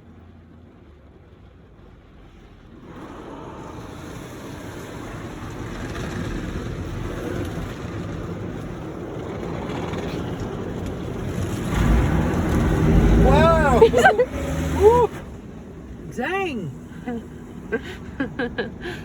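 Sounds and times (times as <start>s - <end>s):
car wash rushing noise: 0.0s - 19.0s.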